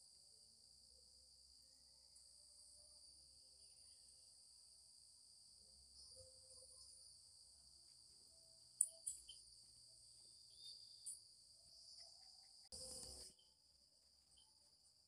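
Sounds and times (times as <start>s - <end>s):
faint high-pitched chirring: 0.0s - 15.0s.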